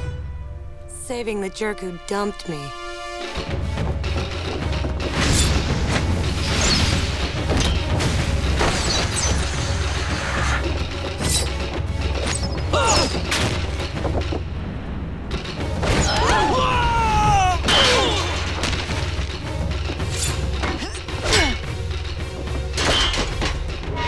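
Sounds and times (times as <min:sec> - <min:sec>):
dramatic score with low rumble: 0:00.0 - 0:24.0.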